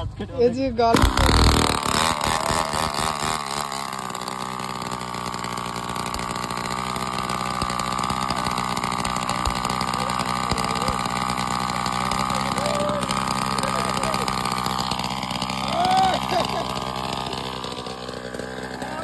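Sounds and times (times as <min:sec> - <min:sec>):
small two-stroke engine idling: 0:00.8 - 0:19.0.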